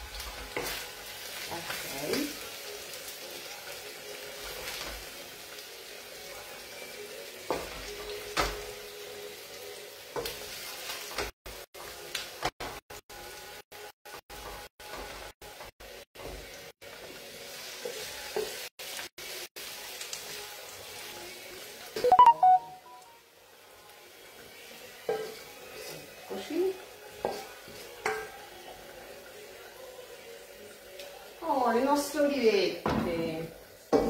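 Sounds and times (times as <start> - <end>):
food sizzling in a wok: 0.0 - 34.0.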